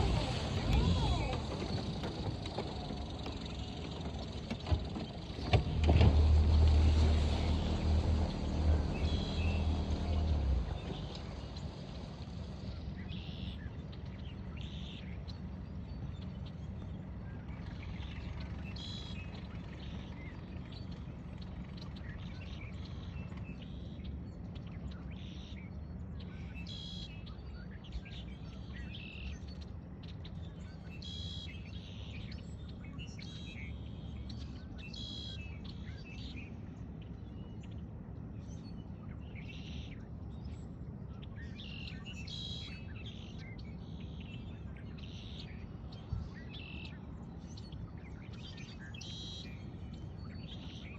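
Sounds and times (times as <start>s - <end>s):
birds chirping: 0.0s - 50.9s
steady low rumble: 0.0s - 50.9s.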